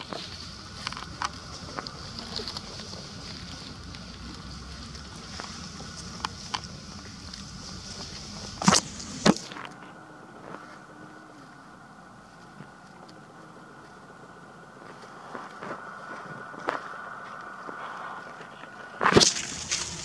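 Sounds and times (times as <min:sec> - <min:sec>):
high hiss: 0:00.0 - 0:20.0
low rumble: 0:00.0 - 0:20.0.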